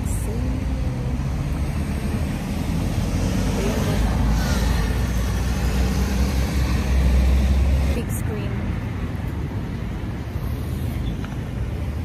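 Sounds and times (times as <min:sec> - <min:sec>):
traffic rumble of passing cars: 0:00.0 - 0:12.0.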